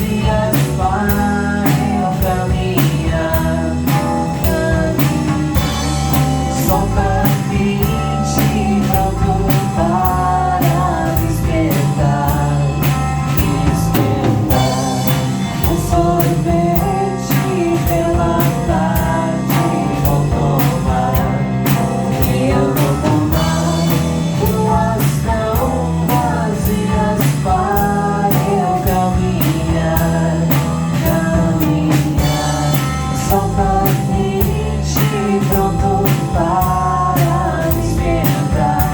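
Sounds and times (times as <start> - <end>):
drum kit beat: 0.0 - 38.9
guitar: 0.0 - 38.9
person singing: 0.0 - 38.9
rock band playing: 0.0 - 38.9.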